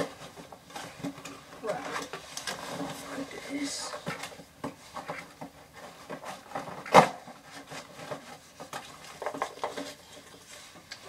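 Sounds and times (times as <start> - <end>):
plastic parts clicking and rustling: 0.0 - 11.0.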